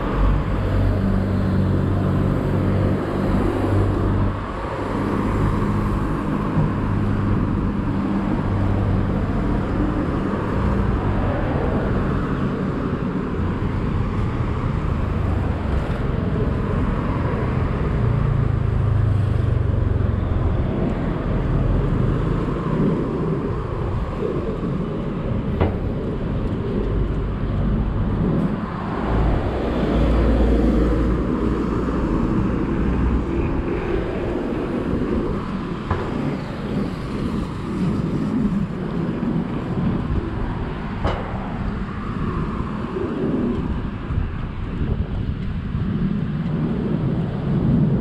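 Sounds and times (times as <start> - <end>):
cars passing: 0.0 - 48.0
deep rumble: 0.0 - 48.0.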